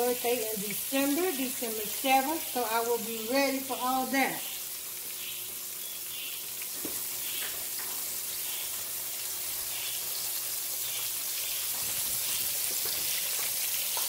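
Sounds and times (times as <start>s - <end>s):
meat frying in oil: 0.0s - 14.0s.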